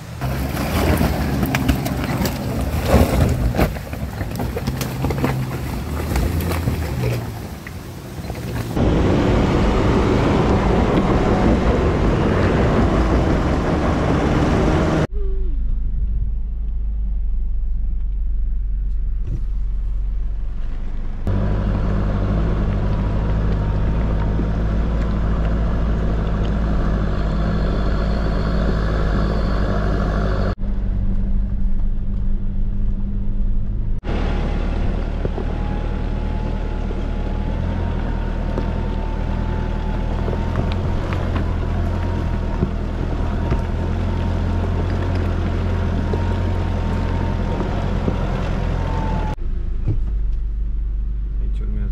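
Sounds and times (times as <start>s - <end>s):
car engine running at low revs: 0.0s - 51.9s.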